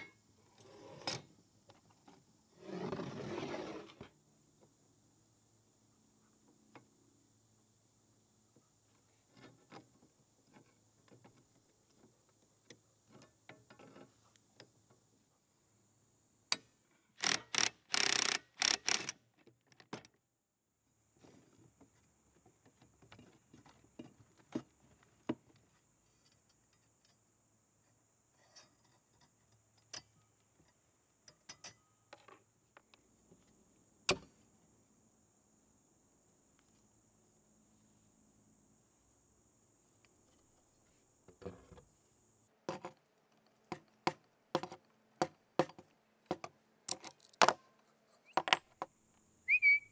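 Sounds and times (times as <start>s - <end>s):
faint high insect drone: 0.0s - 19.3s, 20.3s - 49.9s.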